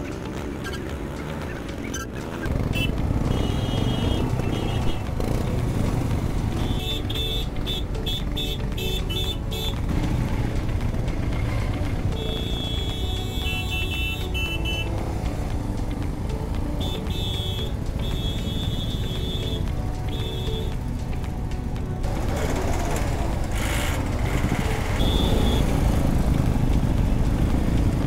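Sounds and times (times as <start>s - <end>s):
motorcycle rumble: 0.0s - 28.0s
upbeat background music: 0.0s - 28.0s.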